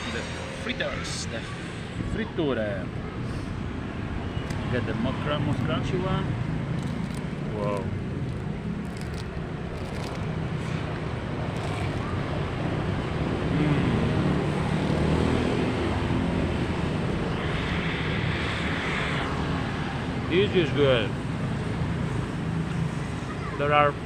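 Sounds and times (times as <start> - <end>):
roadside traffic: 0.0 - 24.0.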